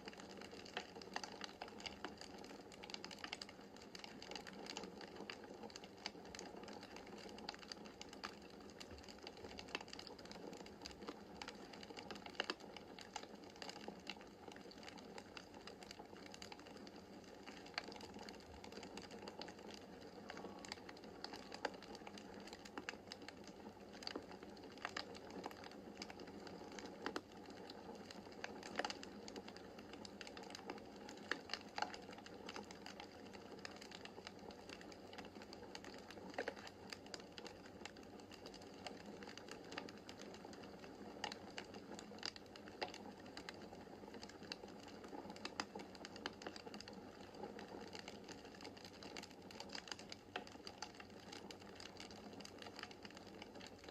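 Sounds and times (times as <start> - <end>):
faint wood fire crackling: 0.0 - 53.9.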